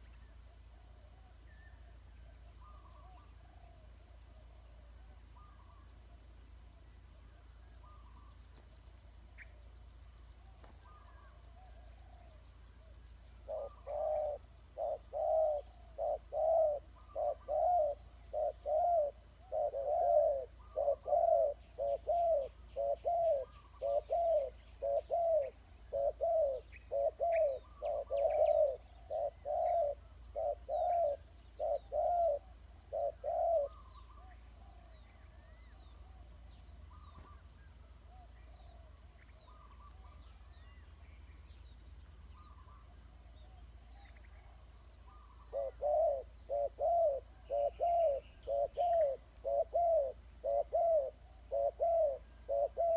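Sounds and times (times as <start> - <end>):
bird cooing: 0.0 - 5.9, 13.3 - 40.8, 41.4 - 52.9
high chirps of small birds: 7.6 - 52.9.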